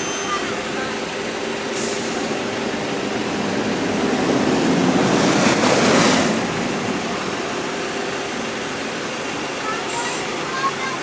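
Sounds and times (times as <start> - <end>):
bus passing by: 0.0 - 11.0.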